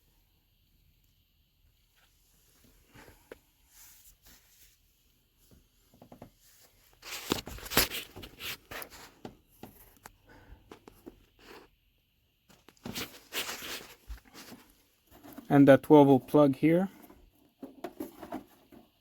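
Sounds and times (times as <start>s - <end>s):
scraping and rustling handling noise: 1.9s - 11.8s, 12.4s - 19.0s.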